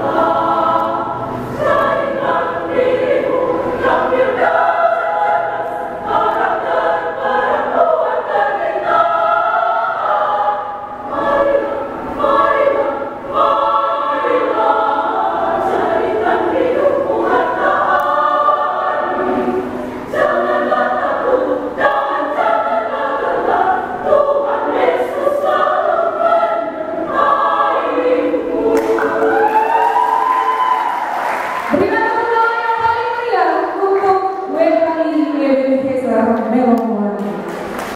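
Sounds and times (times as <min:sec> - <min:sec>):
women's choir singing: 0:00.0 - 0:36.1.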